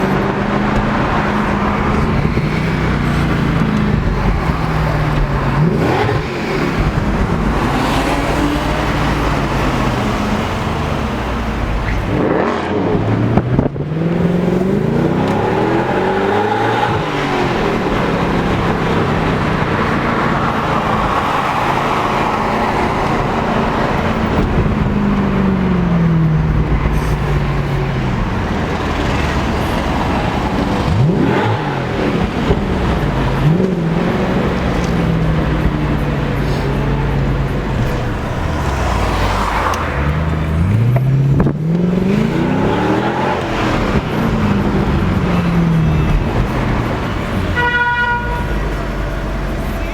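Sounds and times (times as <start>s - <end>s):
car engine accelerating hard: 0.0s - 47.8s.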